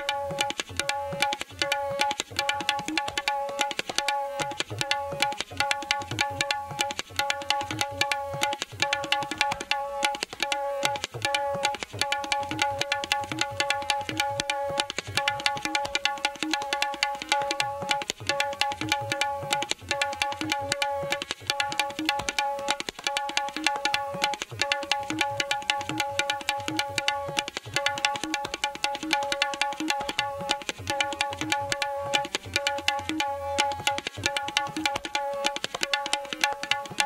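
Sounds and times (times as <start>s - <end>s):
tabla drumming: 0.0s - 37.0s.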